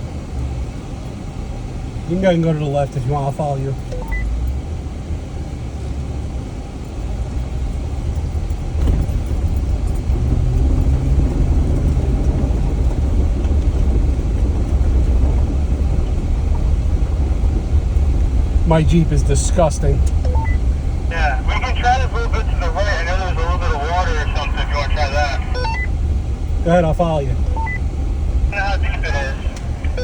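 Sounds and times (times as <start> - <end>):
engine and tyre rumble: 0.0 - 30.0.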